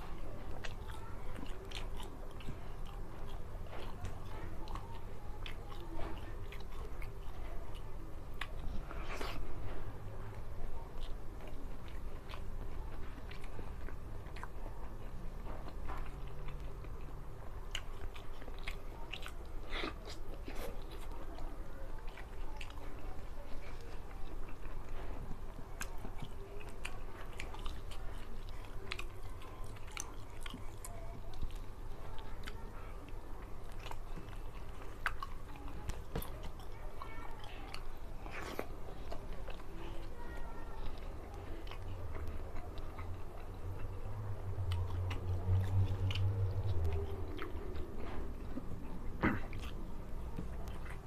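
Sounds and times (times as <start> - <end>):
man chewing food: 0.0 - 51.0.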